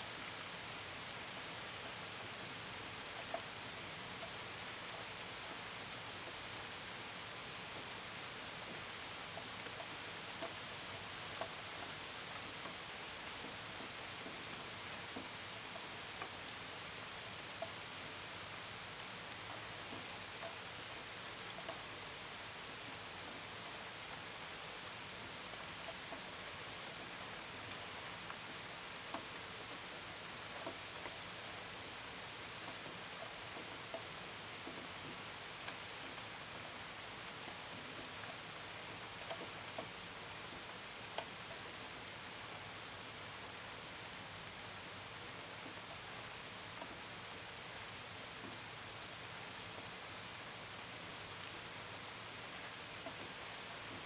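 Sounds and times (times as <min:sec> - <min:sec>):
gentle rain: 0:00.0 - 0:54.0.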